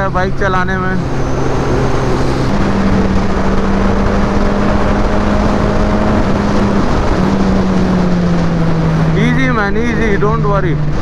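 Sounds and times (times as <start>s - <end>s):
motorcycle engine cruising: 0.0s - 11.0s
wind rushing on microphone: 0.0s - 11.0s.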